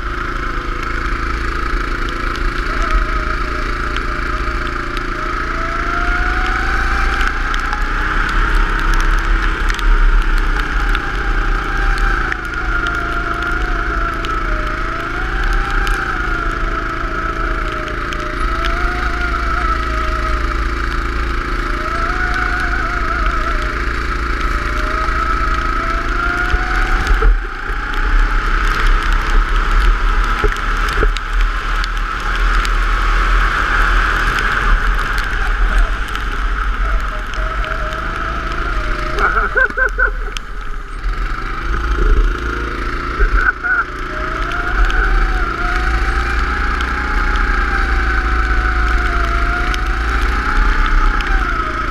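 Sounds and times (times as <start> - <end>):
go-kart engine revving: 0.0 - 51.9.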